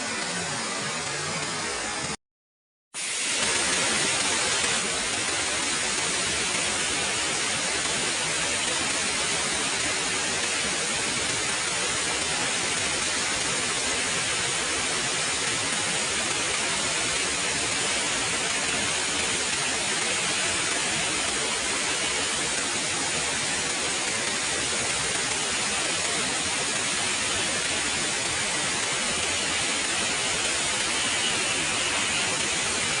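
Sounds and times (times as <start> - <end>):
waterfall rushing: 3.0 - 33.0.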